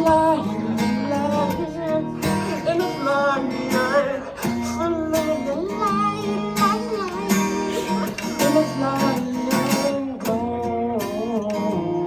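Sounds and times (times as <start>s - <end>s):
acoustic guitar strumming: 0.0s - 12.0s
person singing: 0.0s - 12.0s.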